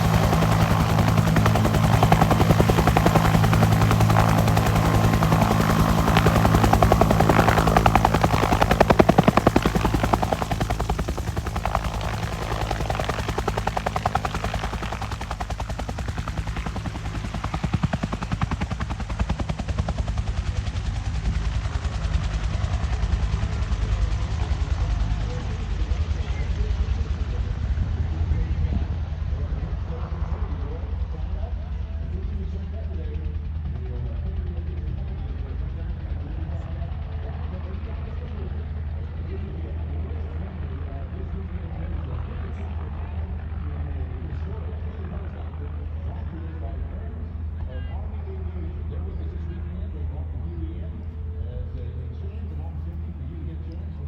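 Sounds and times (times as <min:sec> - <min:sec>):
helicopter turbine and rotor: 0:00.0 - 0:54.0.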